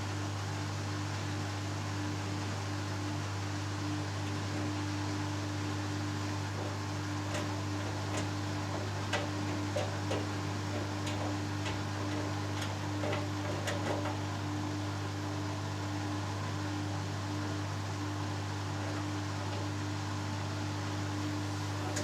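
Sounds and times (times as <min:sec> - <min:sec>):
washing machine motor hum: 0:04.0 - 0:22.0.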